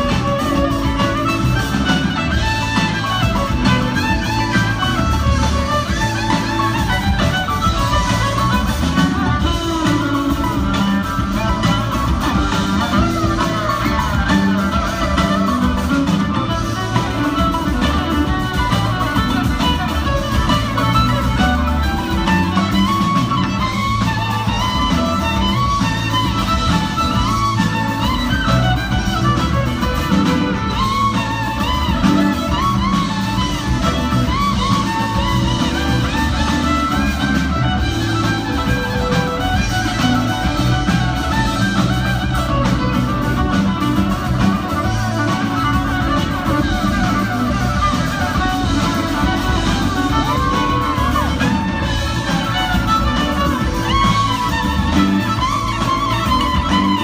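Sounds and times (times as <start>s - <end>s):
fiddle melody: 0.0s - 57.0s
guitar: 0.0s - 57.0s
heavy bass: 0.0s - 57.0s.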